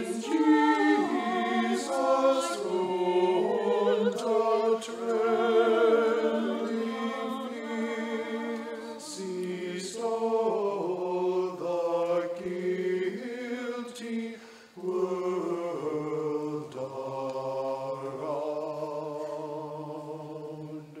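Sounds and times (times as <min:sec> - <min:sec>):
church choir singing chords: 0:00.0 - 0:21.0.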